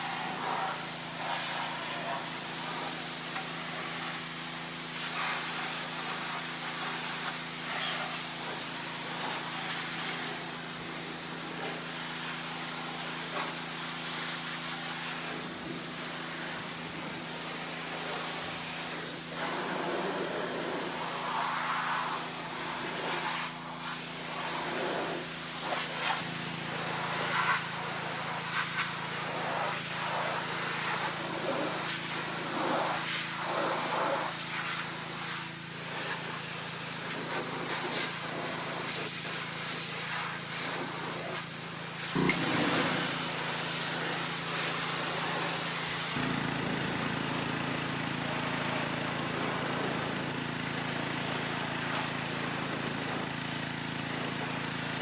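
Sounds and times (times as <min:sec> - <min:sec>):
pressure washer spray on metal: 0:00.0 - 0:55.0.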